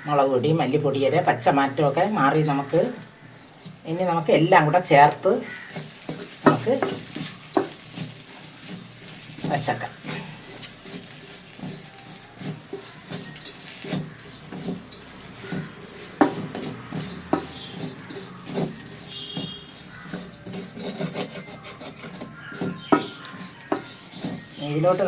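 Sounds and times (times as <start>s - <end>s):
spoon scraping a frying pan: 0.0s - 25.0s
spoon knocking pan: 1.2s - 25.0s.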